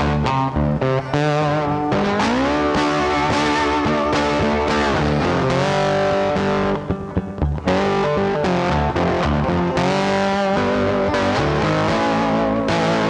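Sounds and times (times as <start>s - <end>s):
distorted electric guitar rock: 0.0s - 13.0s.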